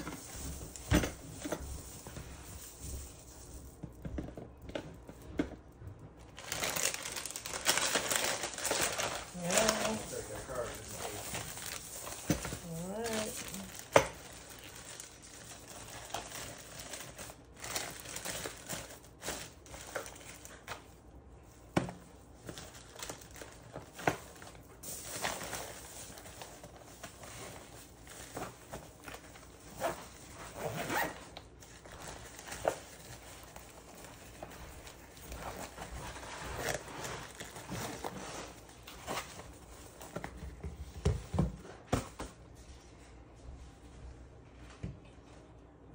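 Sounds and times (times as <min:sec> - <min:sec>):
plastic bags crinkling: 0:00.0 - 0:40.6.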